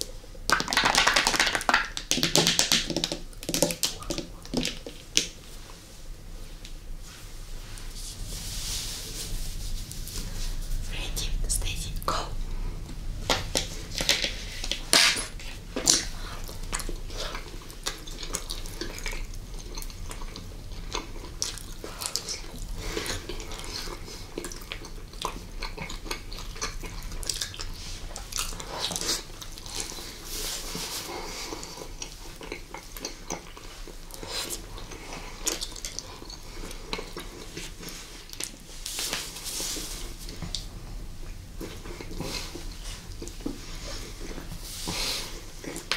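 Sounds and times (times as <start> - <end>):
candy being chewed: 0.3 - 5.5, 12.8 - 45.9.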